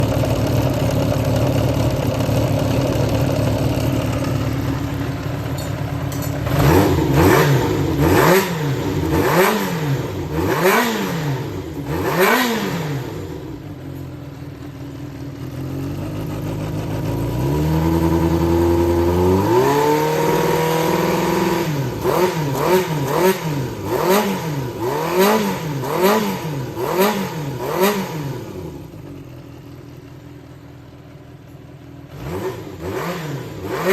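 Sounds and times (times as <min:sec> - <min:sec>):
motorcycle engine revving: 0:00.0 - 0:31.2, 0:31.8 - 0:33.9.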